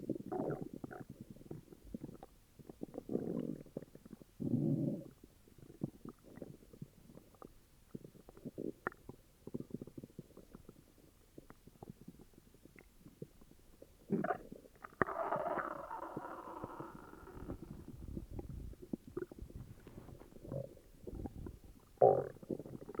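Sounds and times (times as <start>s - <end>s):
stomach growling: 0.0s - 23.0s.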